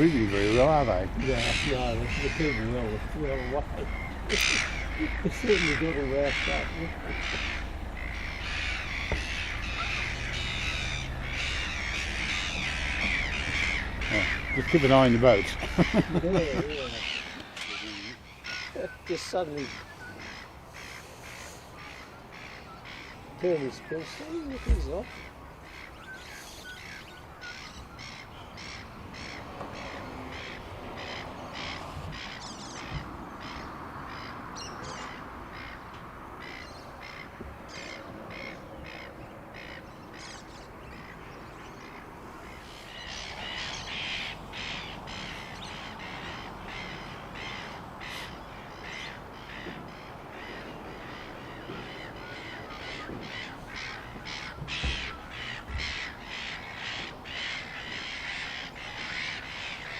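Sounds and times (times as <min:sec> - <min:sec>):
birds making harsh calls: 0:00.0 - 0:59.9.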